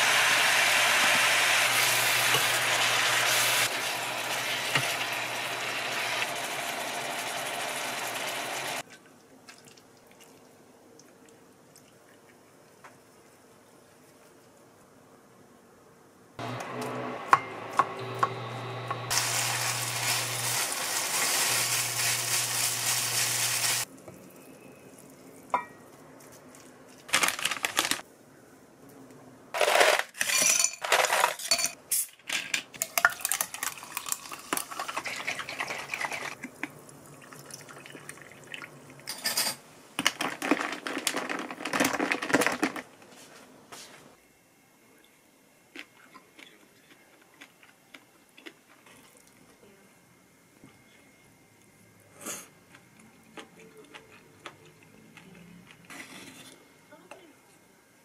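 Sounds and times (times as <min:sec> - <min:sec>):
steady hiss with low hum: 0:00.0 - 0:17.1, 0:18.5 - 0:58.0.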